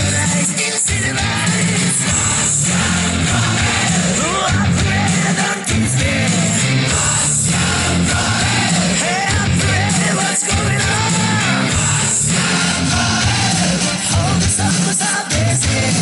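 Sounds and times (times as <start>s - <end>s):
loud rock music with singing: 0.0s - 16.0s.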